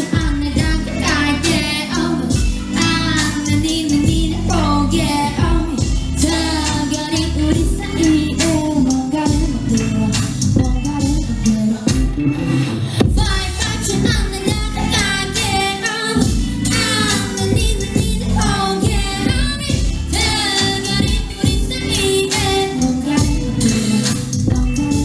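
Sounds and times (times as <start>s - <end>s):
backing track with beat and bass: 0.0s - 25.0s
person singing live pop song: 0.0s - 25.0s.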